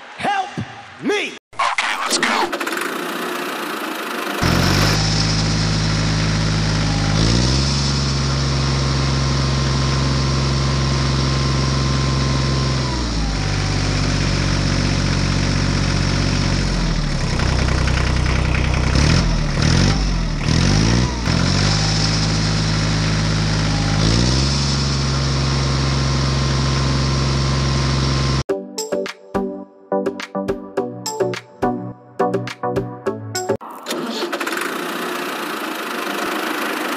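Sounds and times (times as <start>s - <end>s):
tractor engine revving: 1.9s - 28.5s, 33.6s - 36.9s.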